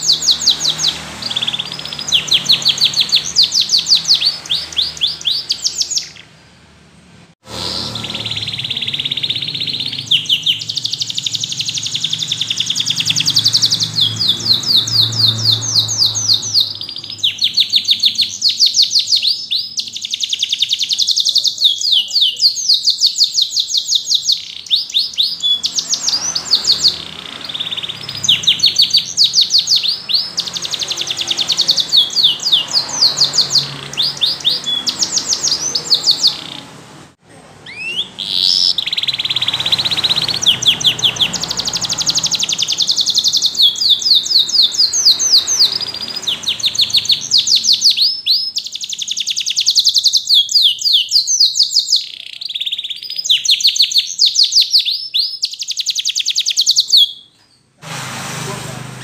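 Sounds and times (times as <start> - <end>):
canary singing trills: 0.0 - 57.8.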